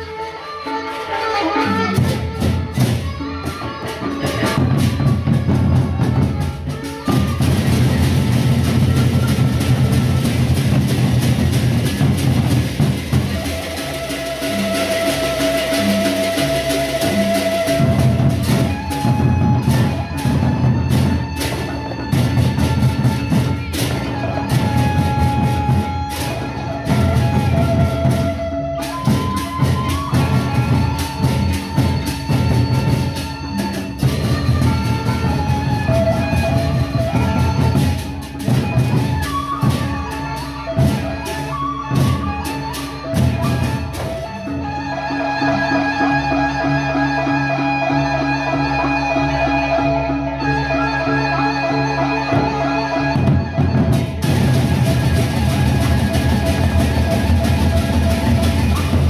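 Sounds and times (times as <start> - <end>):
barrel drums beaten fast: 2.0 - 44.4, 53.2 - 59.0.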